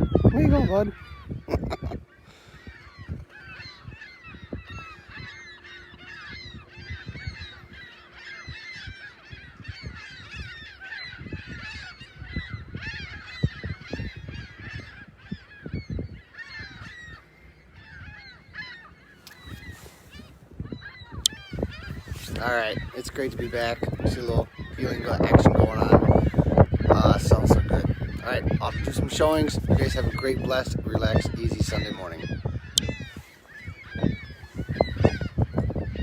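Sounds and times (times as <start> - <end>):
gulls calling: 0.0 - 36.0.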